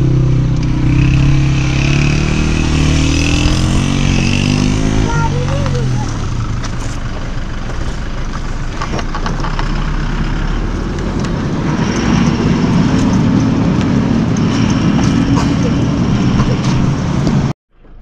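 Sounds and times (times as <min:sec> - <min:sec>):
vehicle engine under load: 0:00.0 - 0:18.0.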